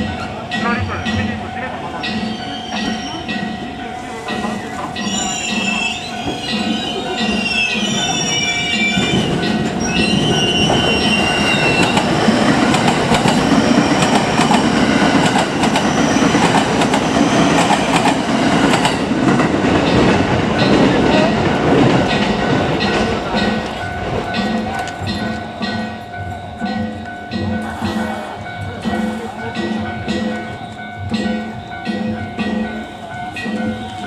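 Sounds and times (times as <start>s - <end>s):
train rumbling: 0.0s - 34.0s
train wheels squealing: 0.0s - 34.0s
wheels clacking over rail joints: 0.0s - 34.0s.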